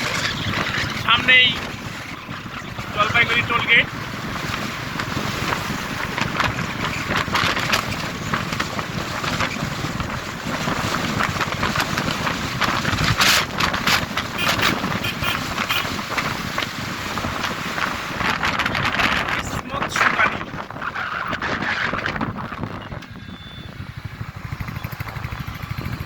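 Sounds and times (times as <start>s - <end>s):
motorcycle engine: 0.0s - 19.4s, 20.3s - 26.0s
road noise: 0.0s - 26.0s
wind buffeting microphone: 0.0s - 26.0s.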